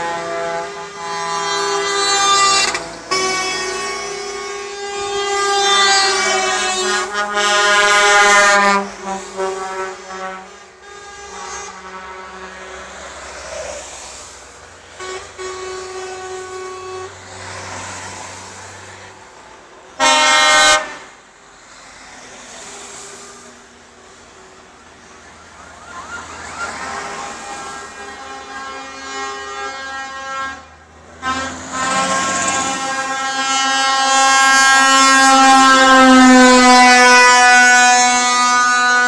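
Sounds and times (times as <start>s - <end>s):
truck air horn blasts: 0.0s - 21.3s, 22.6s - 39.0s
truck noise: 0.0s - 39.0s.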